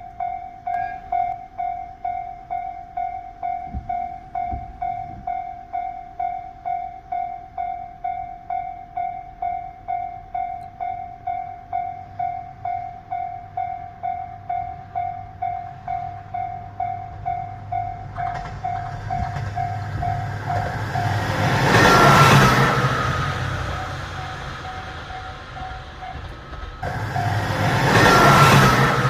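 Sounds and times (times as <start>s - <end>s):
diesel railcar passing: 0.0s - 29.0s
level crossing warning bell: 0.0s - 29.0s.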